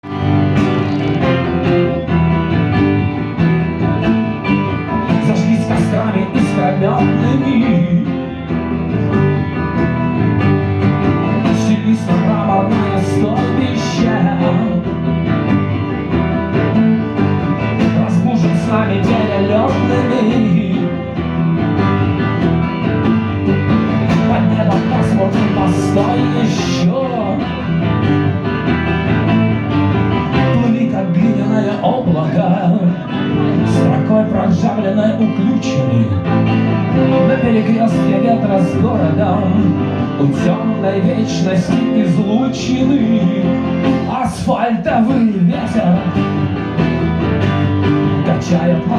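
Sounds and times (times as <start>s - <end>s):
live band playing guitars: 0.0s - 48.9s.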